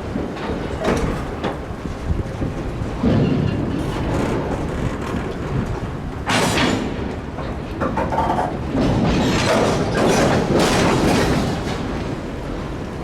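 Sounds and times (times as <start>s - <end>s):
freight train cars clanking: 0.0s - 13.0s.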